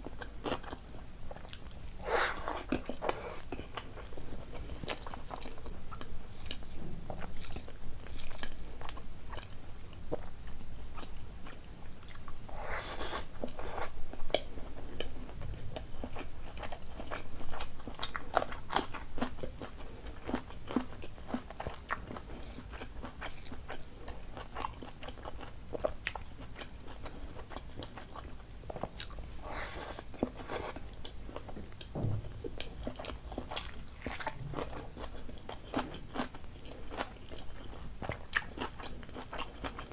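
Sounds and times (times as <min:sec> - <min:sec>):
person chewing and biting food: 0:00.1 - 0:39.9.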